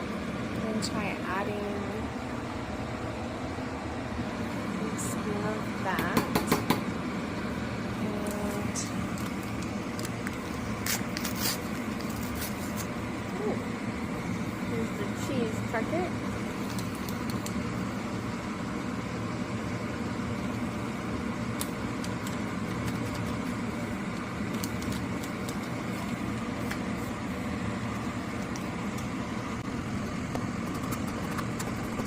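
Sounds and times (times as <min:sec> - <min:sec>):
low rumbling hum: 0:00.0 - 0:32.0.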